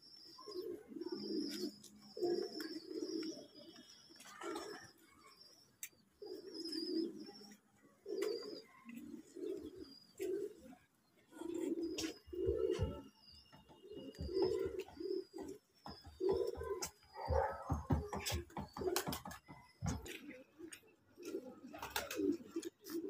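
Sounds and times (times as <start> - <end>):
faint high-pitched chirping: 0.0 - 23.0
pigeons cooing: 0.0 - 23.0.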